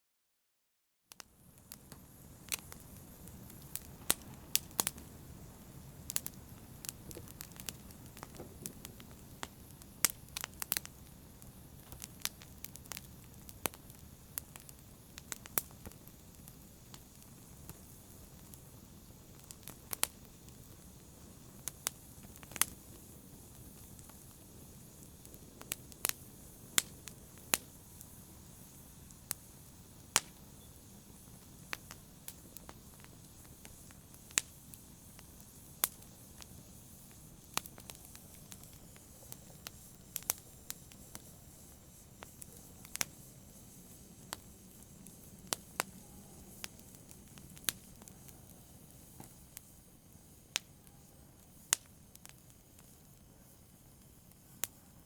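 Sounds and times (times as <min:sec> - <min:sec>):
fire popping and snapping: 0:01.1 - 0:55.0
soft rumble of burning: 0:01.1 - 0:55.0.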